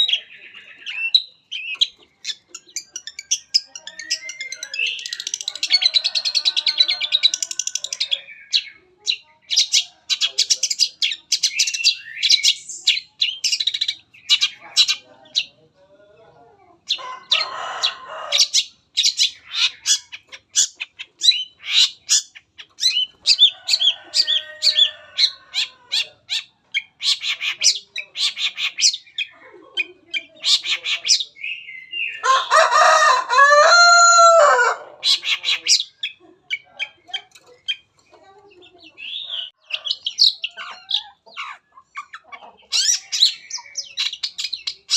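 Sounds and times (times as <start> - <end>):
shrike singing rapid chirps and trills: 0.0 - 33.0, 35.0 - 44.9.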